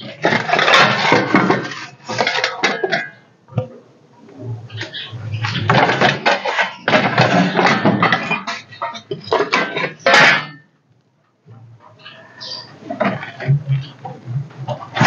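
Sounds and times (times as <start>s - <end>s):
metal pots and dishes clattering: 0.0s - 3.7s, 4.8s - 10.7s, 12.4s - 15.0s.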